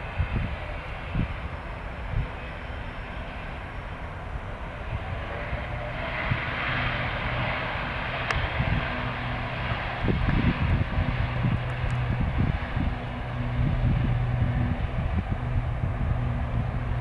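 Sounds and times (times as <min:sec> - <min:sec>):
wind buffeting microphone: 0:00.0 - 0:02.6, 0:03.6 - 0:17.0
airliner engines roaring: 0:00.0 - 0:17.0
low hum: 0:00.0 - 0:17.0.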